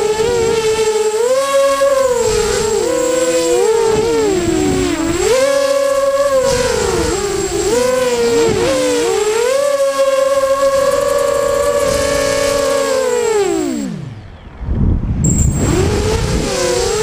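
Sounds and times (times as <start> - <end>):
drone motors whining: 0.0 - 14.5, 15.2 - 17.0.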